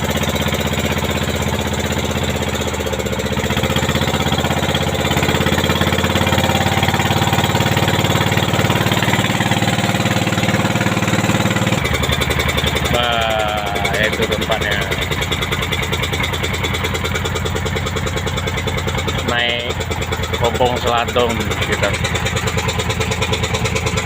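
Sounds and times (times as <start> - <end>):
boat engine chugging: 0.0 - 24.0.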